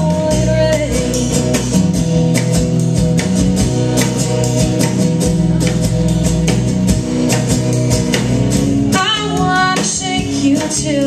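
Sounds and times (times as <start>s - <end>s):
bass notes: 0.0s - 11.0s
guitar: 0.0s - 11.0s
steady drum beat: 0.0s - 11.0s.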